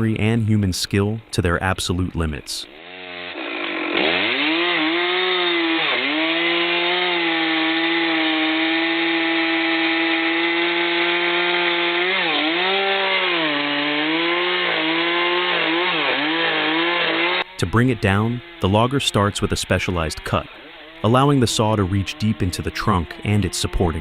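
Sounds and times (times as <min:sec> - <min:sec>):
chainsaw cutting wood: 0:02.7 - 0:24.0.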